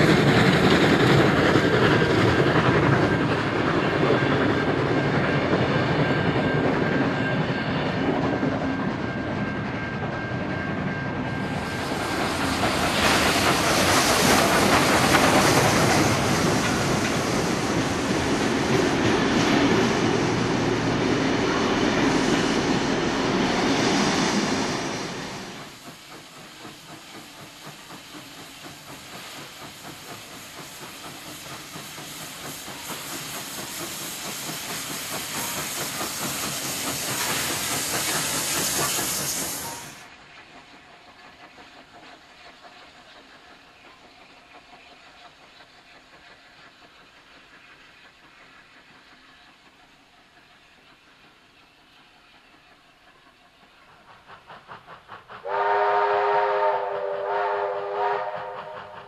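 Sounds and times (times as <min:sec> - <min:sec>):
train passing: 0:00.0 - 0:59.0.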